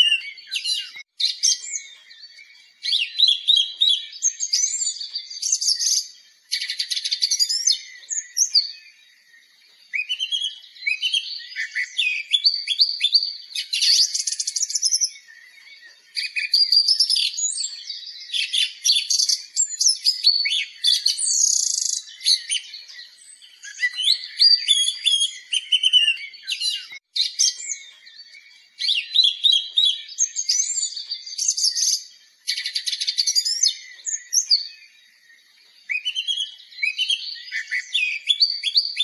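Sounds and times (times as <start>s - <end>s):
songbirds singing: 0.0s - 39.0s.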